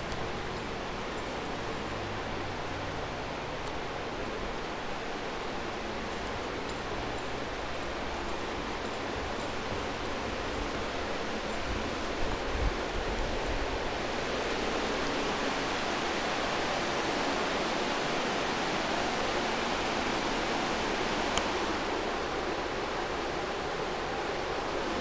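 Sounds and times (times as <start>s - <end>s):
steady rushing hiss: 0.0s - 25.0s.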